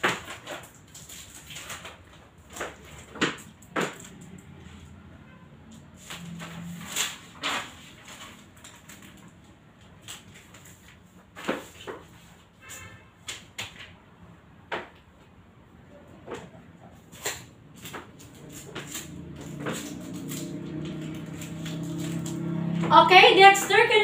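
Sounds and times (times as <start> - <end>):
paper chart rustling and crinkling: 0.0 - 5.0, 5.7 - 13.9, 17.0 - 24.0.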